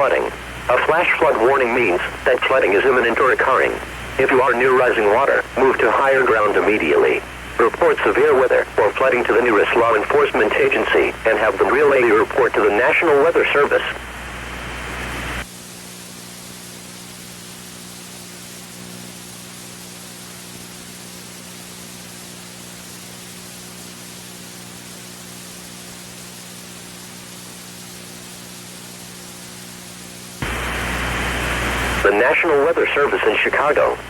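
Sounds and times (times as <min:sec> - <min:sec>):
low electrical hum: 0:00.0 - 0:34.0
steady hiss: 0:00.0 - 0:34.0.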